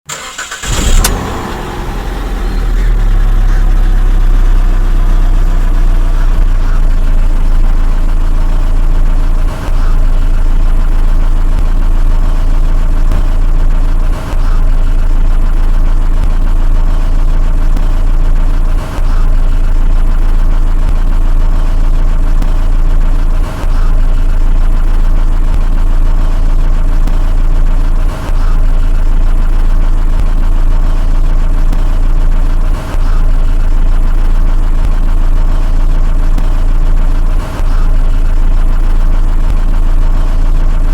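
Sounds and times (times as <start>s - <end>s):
car engine starting and idling: 0.0s - 40.9s.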